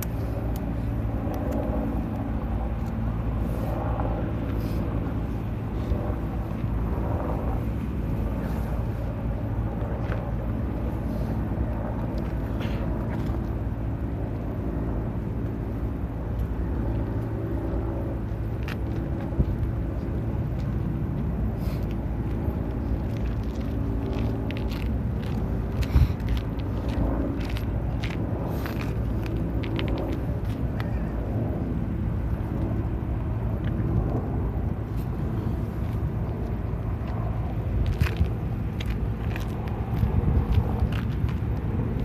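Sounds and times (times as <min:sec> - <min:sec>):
distant road traffic rumble: 0:00.0 - 0:42.0.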